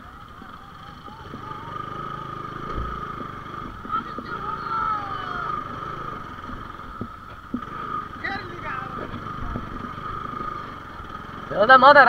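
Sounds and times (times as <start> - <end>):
motorcycle engine running slowly: 0.0 - 12.0.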